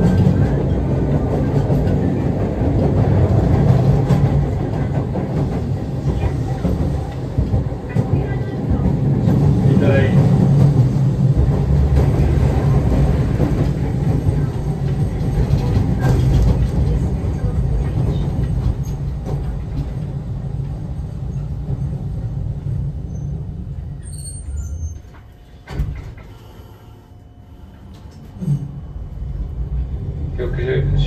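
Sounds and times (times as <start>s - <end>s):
tram rumbling on rails: 0.0s - 31.0s.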